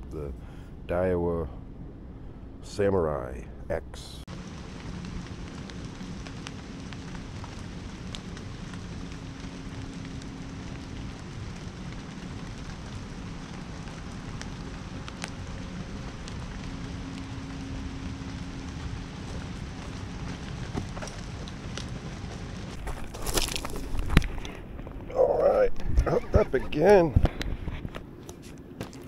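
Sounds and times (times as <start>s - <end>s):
faint low hum: 0.0s - 29.0s
steady rain hiss: 0.0s - 29.0s.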